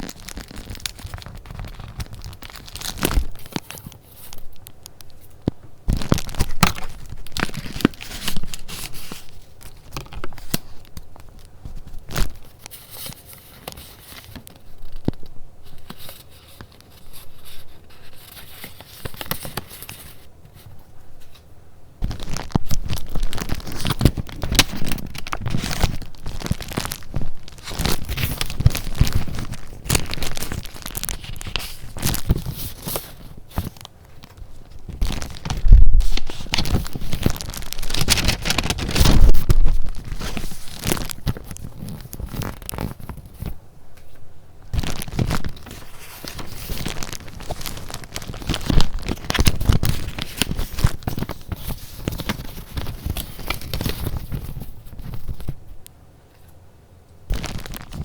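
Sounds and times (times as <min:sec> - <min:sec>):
paper rustling and crinkling: 0:00.0 - 0:55.8, 0:57.3 - 0:58.0.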